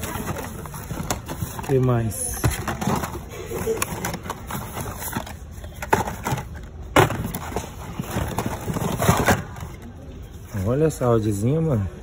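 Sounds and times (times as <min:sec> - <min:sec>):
plastic packages clacking and rustling: 0:00.0 - 0:11.4.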